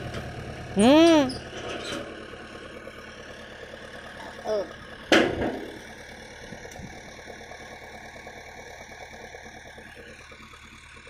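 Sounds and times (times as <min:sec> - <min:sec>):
diesel engines idling: 0:00.0 - 0:11.0.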